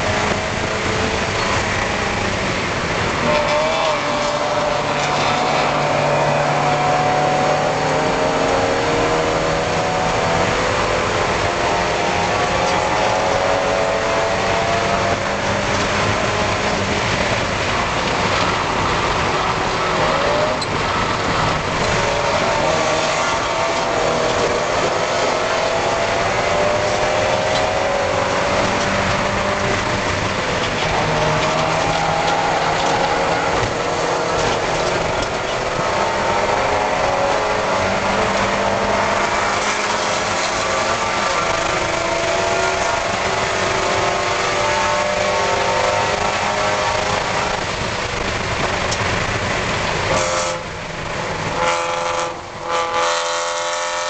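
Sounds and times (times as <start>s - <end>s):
race car engine running hard: 0.0s - 54.0s
wind and road noise: 0.0s - 54.0s.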